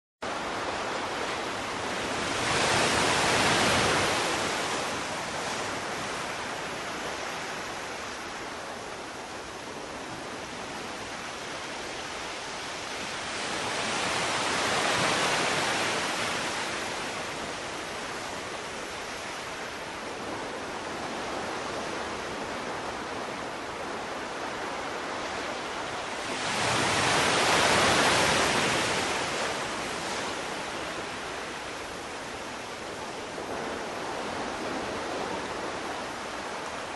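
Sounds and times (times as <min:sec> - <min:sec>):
sea waves surging: 0:00.2 - 0:36.9.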